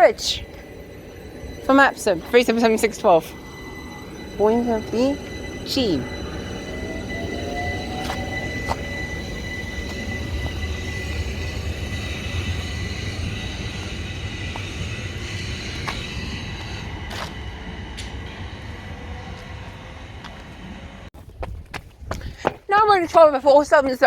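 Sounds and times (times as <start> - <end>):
electric motor whine: 0.0 - 21.0
train low rumble: 0.0 - 21.4.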